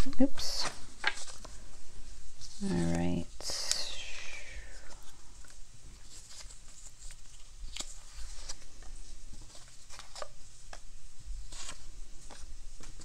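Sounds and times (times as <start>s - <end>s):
soft rustling of handled items: 0.0s - 13.0s.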